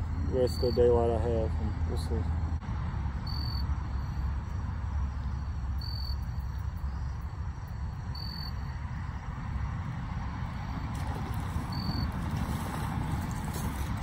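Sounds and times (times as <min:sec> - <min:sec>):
insect chirping: 0:00.0 - 0:13.9.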